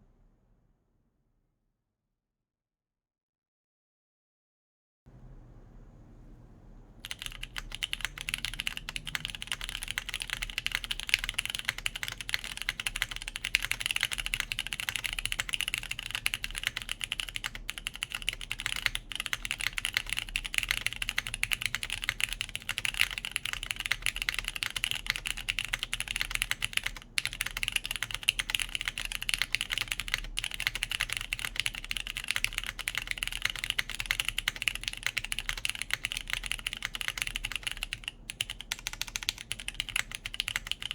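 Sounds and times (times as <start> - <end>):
typing on mechanical keyboard: 7.0 - 40.9.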